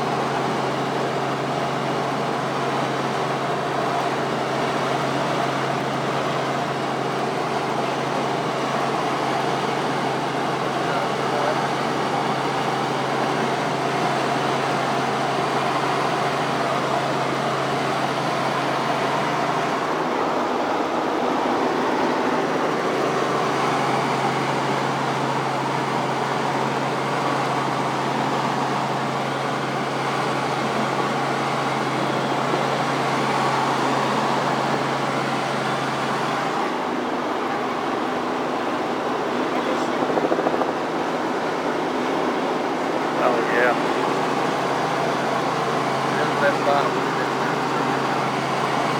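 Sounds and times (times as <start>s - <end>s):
helicopter engine and rotor noise: 0.0s - 48.9s.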